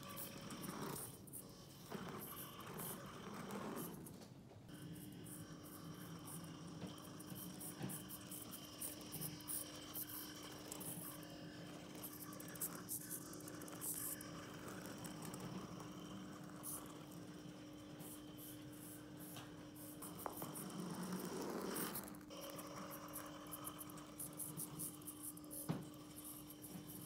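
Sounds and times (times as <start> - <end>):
steady low hum: 0.0 - 27.0
toy car motor whirring: 0.0 - 27.0.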